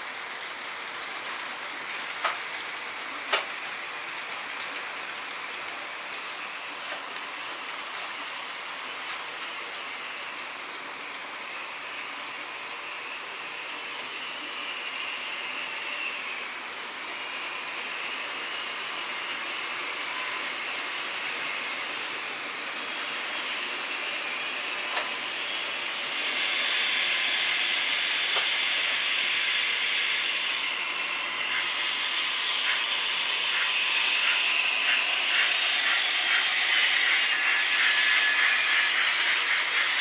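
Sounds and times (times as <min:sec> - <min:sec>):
model trains whirring on track: 0:00.0 - 0:40.0.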